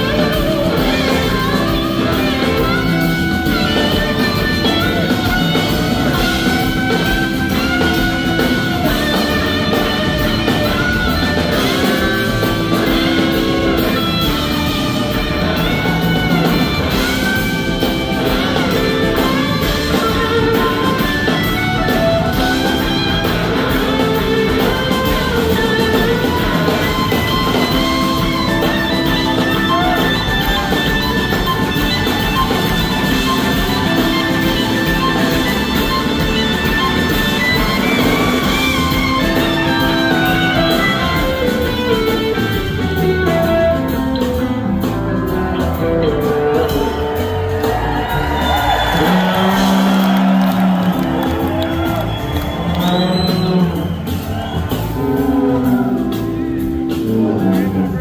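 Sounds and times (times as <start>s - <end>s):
drum kit: 0.0s - 58.0s
electric guitars with gliding notes: 0.0s - 58.0s.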